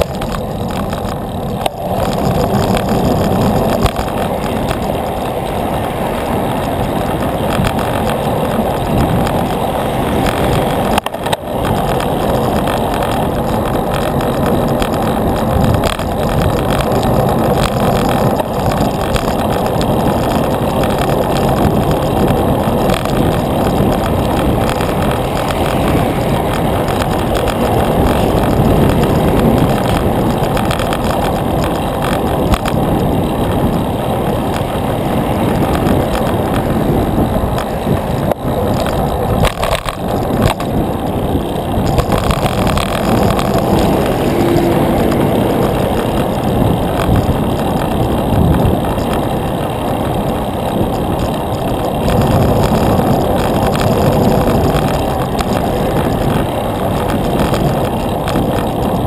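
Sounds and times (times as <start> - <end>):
wind and road noise from cycling: 0.0 - 59.0.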